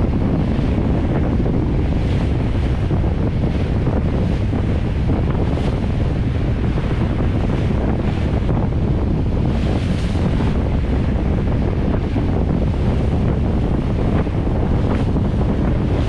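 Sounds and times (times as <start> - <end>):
water rushing past boat: 0.0 - 16.0
wind buffeting microphone: 0.0 - 16.0.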